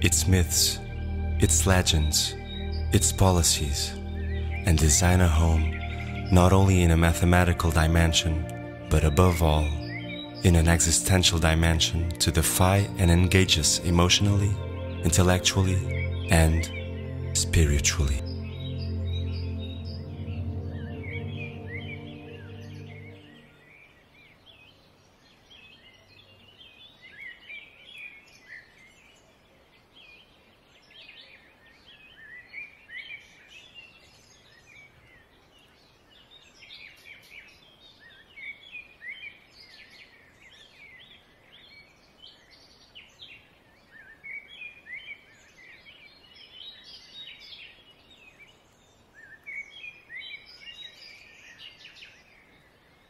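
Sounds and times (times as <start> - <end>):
faint background hiss: 0.0 - 53.0.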